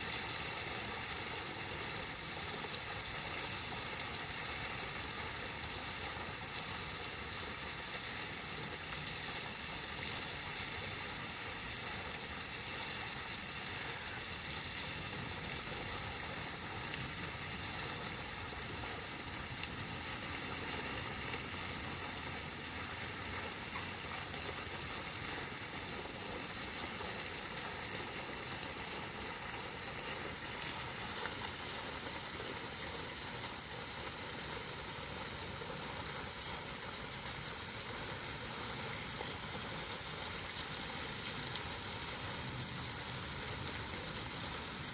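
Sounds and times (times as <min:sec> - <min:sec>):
running water rushing: 0:00.0 - 0:44.9.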